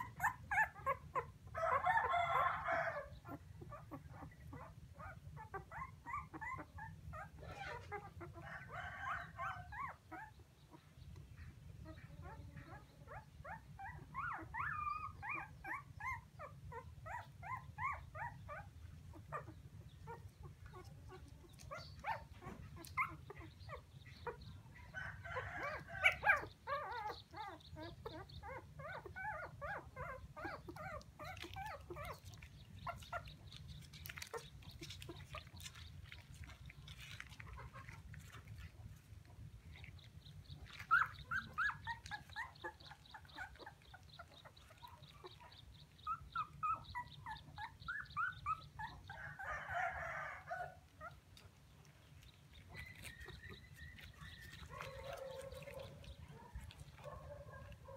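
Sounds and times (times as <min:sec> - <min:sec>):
puppy whining and yelping: 0:00.0 - 0:57.9.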